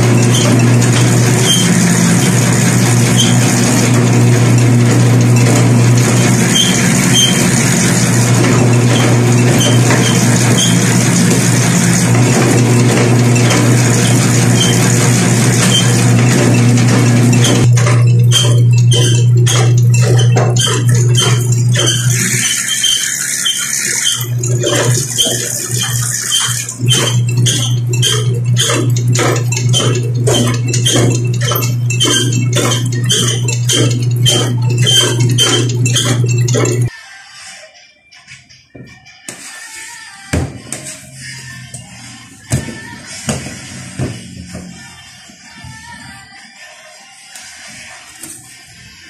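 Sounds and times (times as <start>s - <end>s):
dough roller machine humming: 0.0s - 36.9s, 40.3s - 46.4s.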